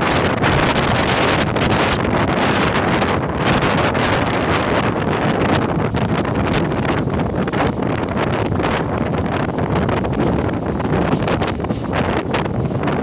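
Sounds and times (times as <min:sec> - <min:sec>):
train running on rails: 0:00.0 - 0:13.0
wind buffeting microphone: 0:00.0 - 0:13.0.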